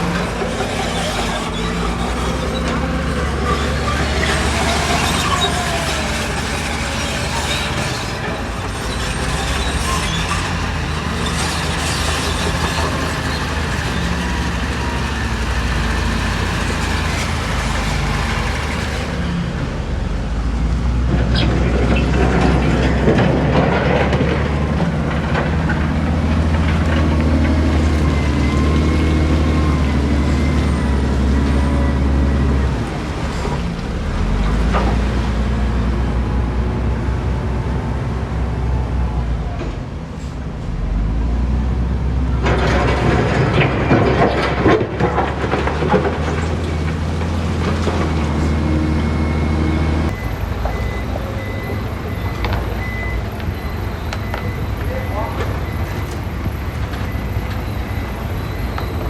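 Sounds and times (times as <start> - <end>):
diesel engines running under load: 0.0 - 59.0.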